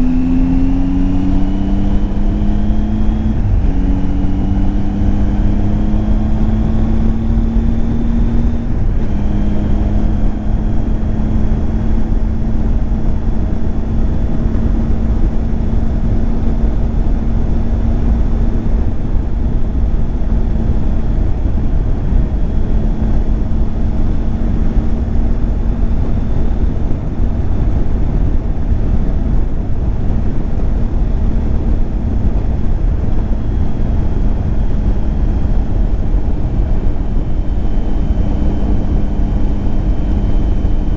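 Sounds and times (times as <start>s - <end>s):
motorcycle engine cruising: 0.0s - 40.9s
wind noise on microphone: 0.0s - 40.9s.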